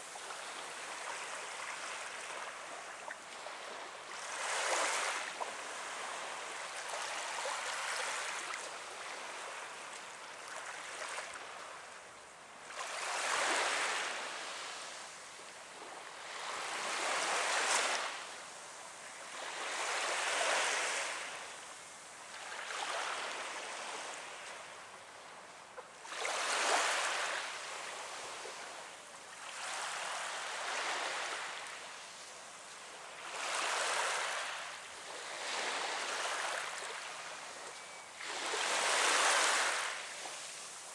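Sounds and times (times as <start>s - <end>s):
small waves lapping on beach: 0.0s - 40.9s.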